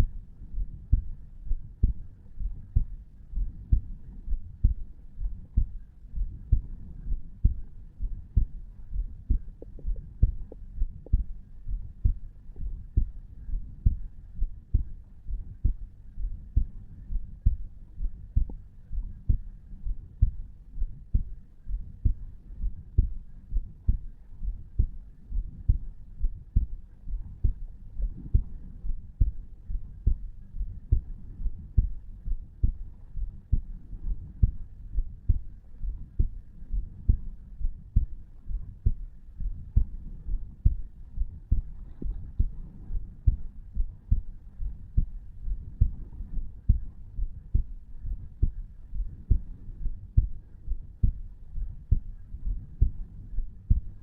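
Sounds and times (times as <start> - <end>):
heartbeat: 0.0 - 54.0.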